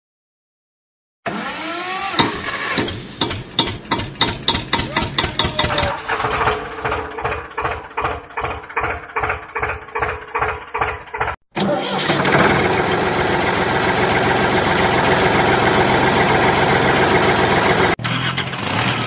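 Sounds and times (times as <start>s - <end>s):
tractor engine chugging: 3.6s - 18.9s.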